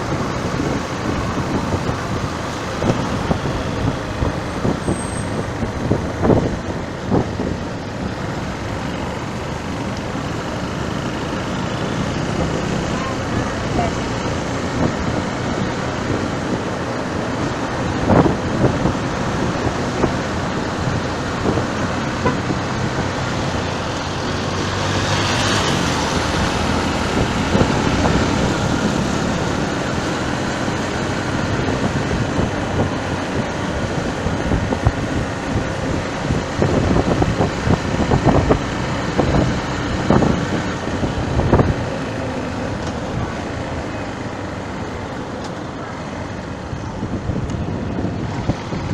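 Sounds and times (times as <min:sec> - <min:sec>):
road traffic noise: 0:00.0 - 0:48.9
wind: 0:00.0 - 0:48.9.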